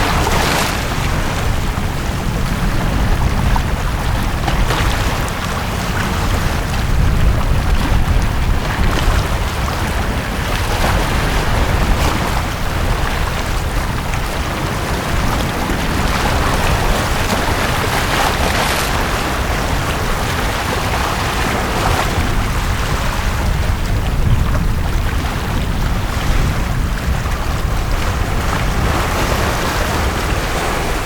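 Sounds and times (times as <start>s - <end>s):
waves washing onto a beach: 0.0s - 31.0s.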